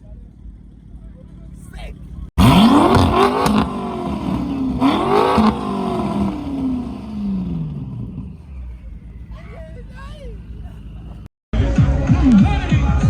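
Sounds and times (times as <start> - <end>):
car engine accelerating hard: 0.4 - 12.6.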